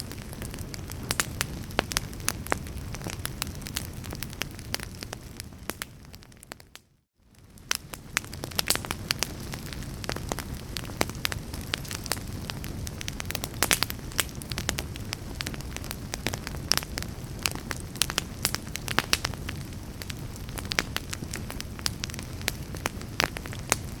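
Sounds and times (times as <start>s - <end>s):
fire crackling and popping: 0.0s - 24.0s
fire flames rumbling: 0.0s - 24.0s.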